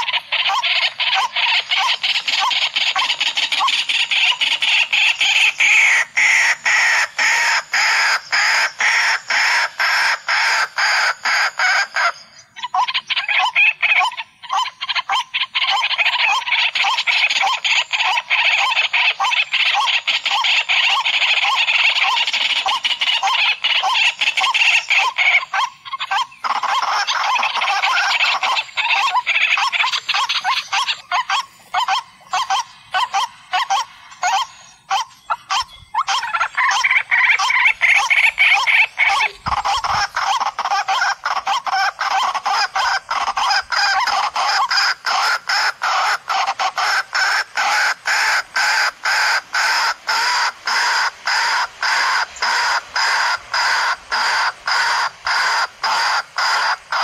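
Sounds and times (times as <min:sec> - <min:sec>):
waterhen calls: 0:00.0 - 0:57.0.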